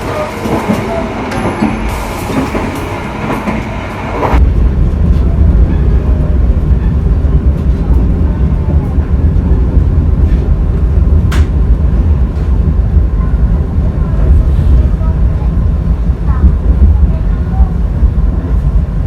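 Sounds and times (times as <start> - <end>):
train running on rails: 0.0 - 19.0
deep rumble: 0.5 - 19.0.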